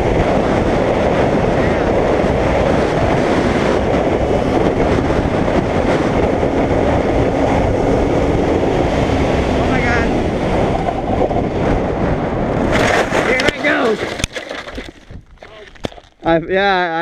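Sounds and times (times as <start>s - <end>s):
wind and road rush: 0.0s - 16.8s.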